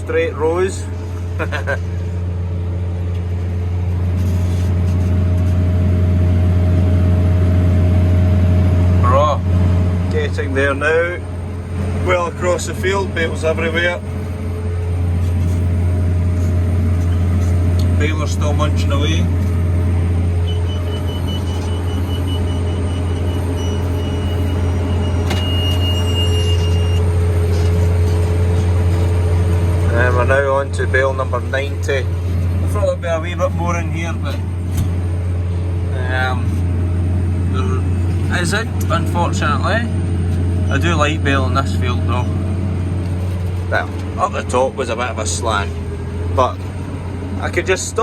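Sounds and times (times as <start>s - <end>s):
tractor diesel engine under load: 0.0s - 48.0s
steady machine whine: 0.8s - 48.0s.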